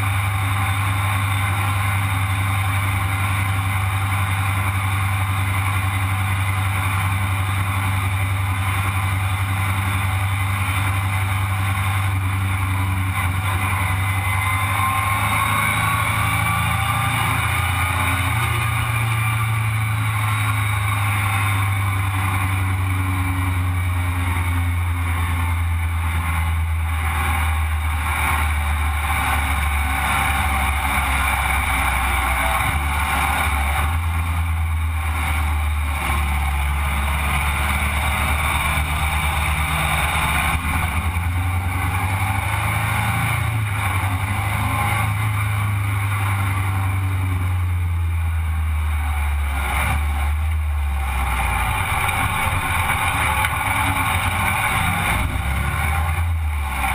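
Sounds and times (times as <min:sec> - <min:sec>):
buggy engine running: 0:00.0 - 0:56.9.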